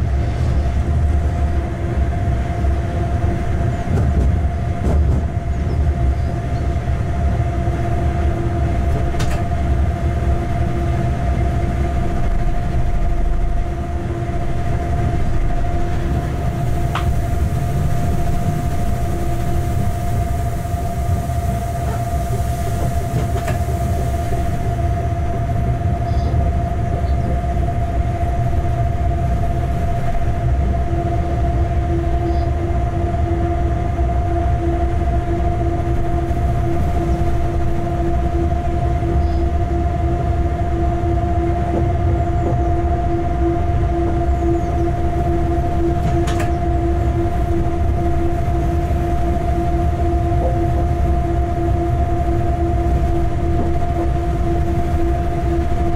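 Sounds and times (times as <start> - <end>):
constant whine: 0.0 - 55.9
wheels rumbling on rail: 0.0 - 55.9.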